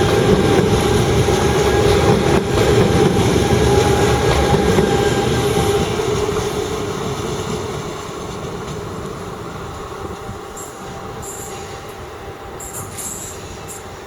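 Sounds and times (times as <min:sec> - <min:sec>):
train rumbling on tracks: 0:00.0 - 0:14.0.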